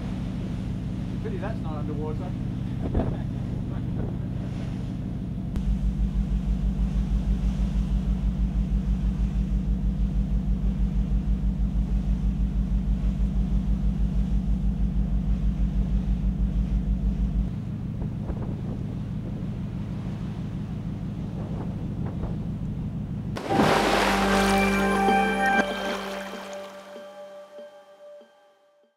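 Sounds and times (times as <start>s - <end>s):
low machinery hum: 0.0s - 26.8s
ship engines throbbing: 0.0s - 27.8s.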